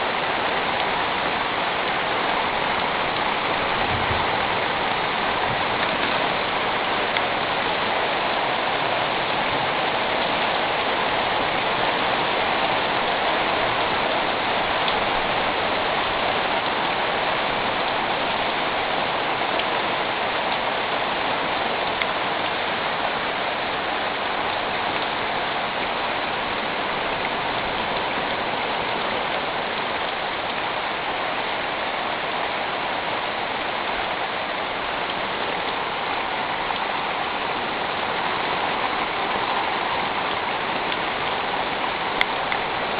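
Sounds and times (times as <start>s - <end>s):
heavy rain on a metal roof: 0.0s - 42.9s.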